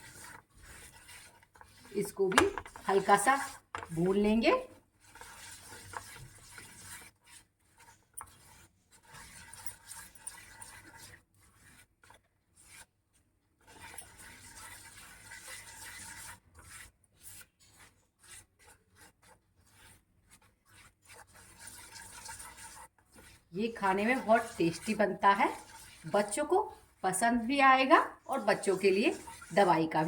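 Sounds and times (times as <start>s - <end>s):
spoon scraping a pan: 0.0s - 12.9s, 13.6s - 30.0s.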